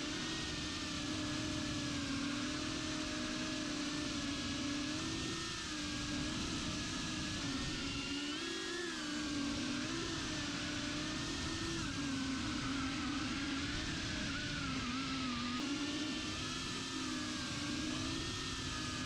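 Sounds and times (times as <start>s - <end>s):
quadcopter propellers whirring: 0.0s - 19.0s.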